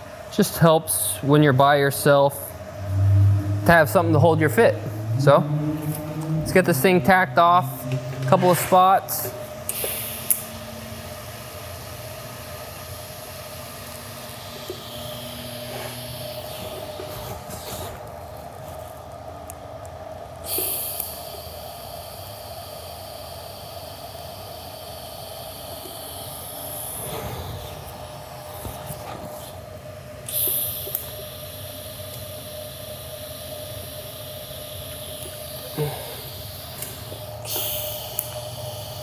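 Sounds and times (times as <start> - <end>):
machine hum and hiss: 0.0 - 39.0
welding arc buzzing: 1.8 - 39.0.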